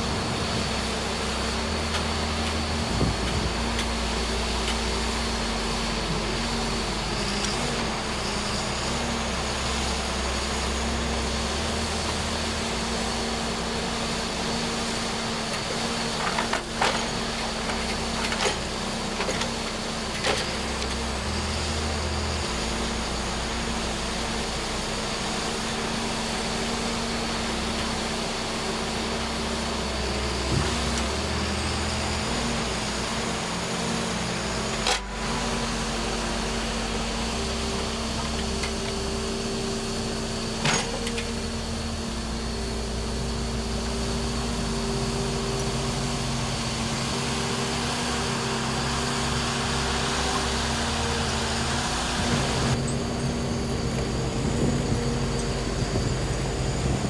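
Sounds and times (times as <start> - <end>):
heavy machine engine running: 0.0 - 57.0.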